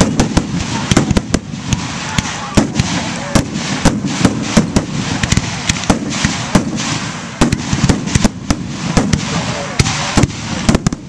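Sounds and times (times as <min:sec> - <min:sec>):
continuous noisy haze: 0:00.0 - 0:11.0
fireworks bursting: 0:00.0 - 0:11.0.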